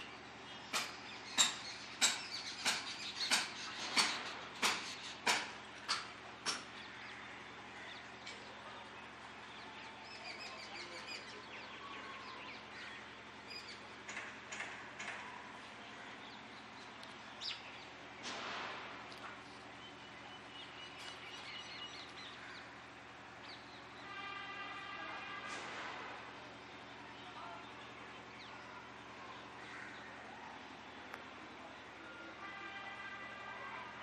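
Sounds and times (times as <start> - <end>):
birds chirping: 0.0 - 34.0
low steady hum: 0.0 - 34.0.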